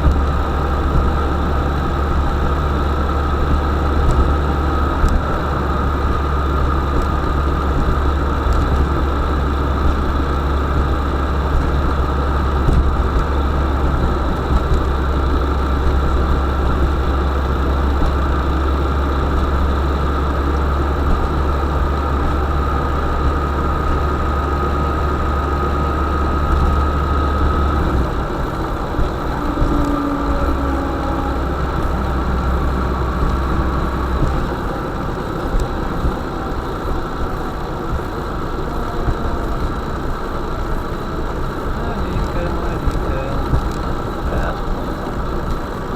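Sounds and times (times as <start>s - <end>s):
engine whine: 0.0s - 45.9s
van engine droning: 0.0s - 45.9s.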